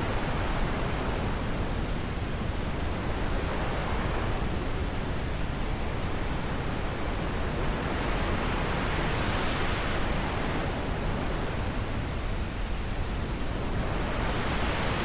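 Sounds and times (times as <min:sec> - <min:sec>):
wind blowing steadily: 0:00.0 - 0:15.0.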